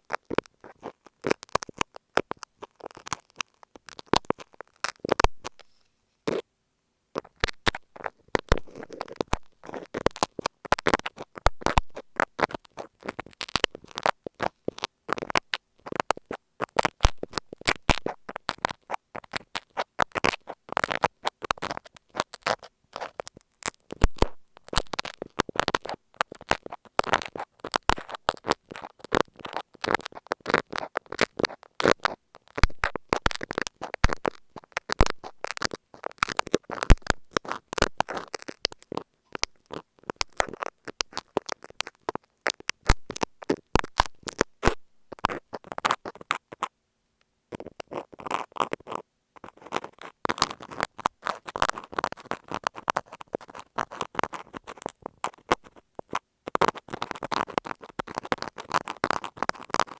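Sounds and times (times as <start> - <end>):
pins scratching on tape: 0.0 - 6.4, 7.2 - 46.7, 47.5 - 59.9.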